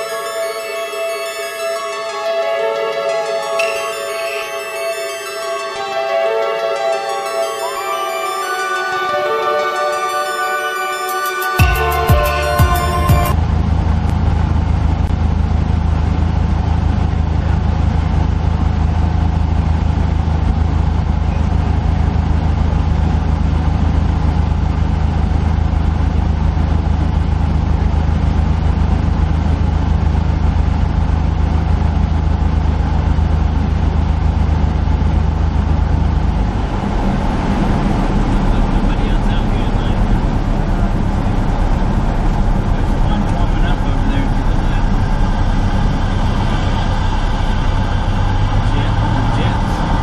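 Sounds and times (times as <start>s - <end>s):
airplane engine droning: 0.0s - 50.0s.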